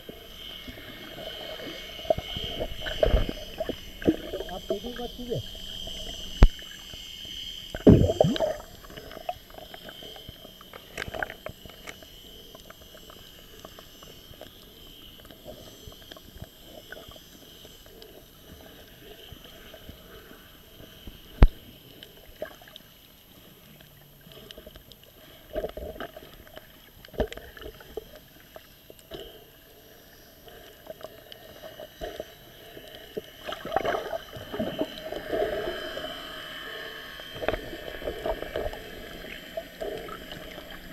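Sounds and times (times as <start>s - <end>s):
bubbly gurgles and splashes: 0.0s - 40.9s
underwater hiss: 0.0s - 40.9s.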